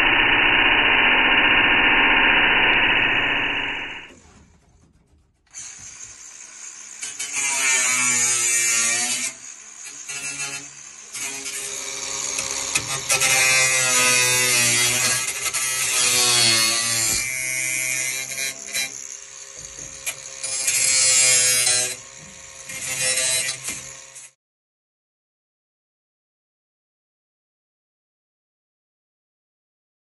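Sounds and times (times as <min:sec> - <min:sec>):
angle grinder cutting sheet metal: 0:00.0 - 0:24.4.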